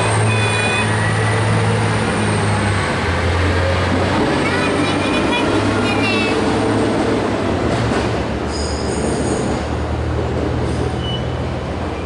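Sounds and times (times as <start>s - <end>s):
diesel railcar engine humming: 0.0s - 12.0s.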